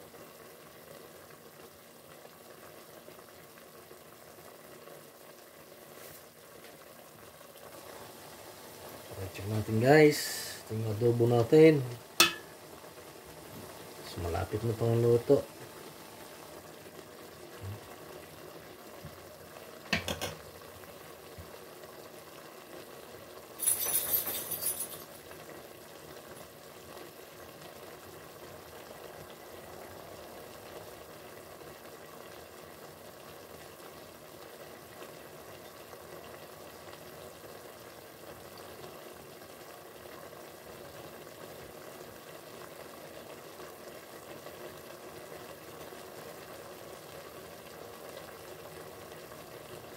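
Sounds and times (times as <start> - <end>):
pot bubbling and sizzling: 0.0 - 49.9.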